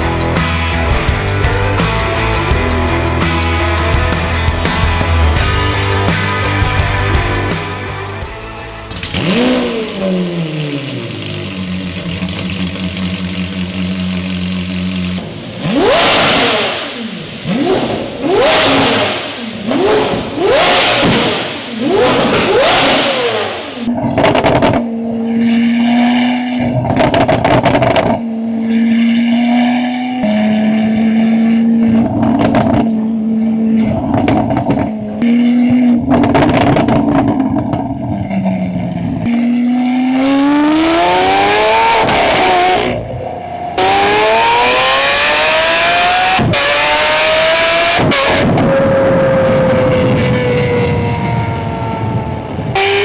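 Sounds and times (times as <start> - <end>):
sports car exhaust revving: 8.8 - 53.0.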